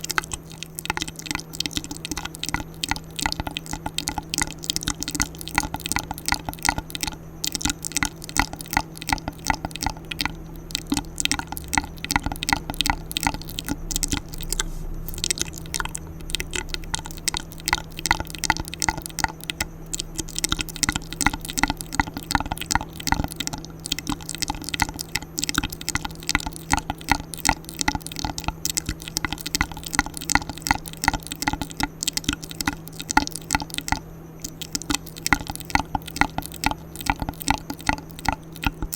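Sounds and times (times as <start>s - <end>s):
wet mouth clicks and smacks: 0.0s - 38.9s.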